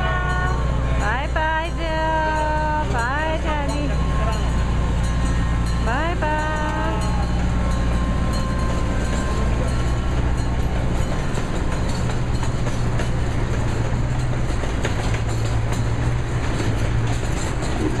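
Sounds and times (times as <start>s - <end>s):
train rumbling on board: 0.0s - 18.0s.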